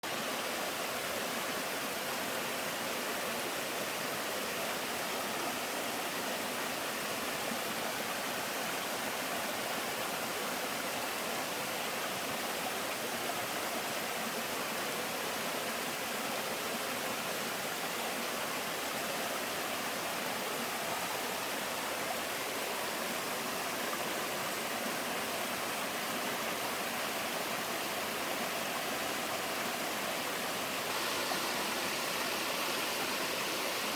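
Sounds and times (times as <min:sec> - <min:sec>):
waterfall rushing over rock: 0:00.1 - 0:33.9.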